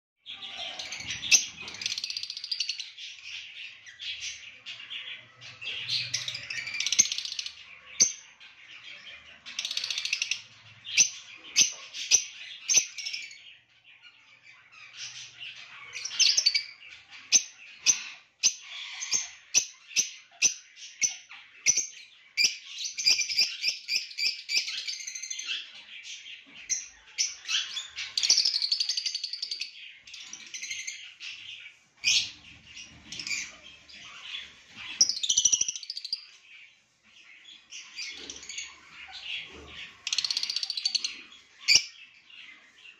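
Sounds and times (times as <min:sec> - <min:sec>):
lovebirds chirping: 0:00.2 - 0:42.9.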